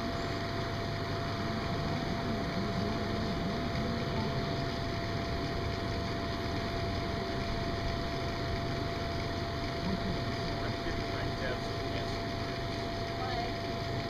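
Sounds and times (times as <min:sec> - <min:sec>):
electric blower fan humming: 0:00.0 - 0:14.0.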